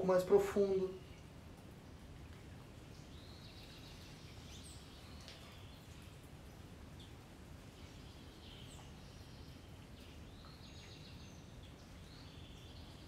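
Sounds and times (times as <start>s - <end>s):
faint birds chirping: 0.0s - 13.0s
low background noise: 0.0s - 13.0s.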